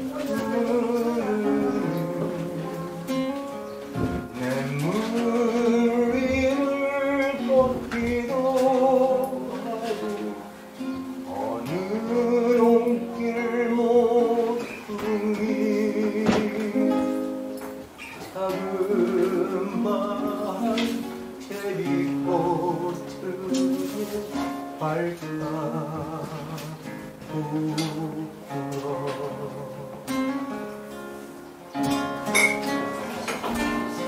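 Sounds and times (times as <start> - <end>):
man singing: 0.0 - 3.2, 4.0 - 17.5, 18.2 - 30.8
acoustic guitar: 0.0 - 34.0.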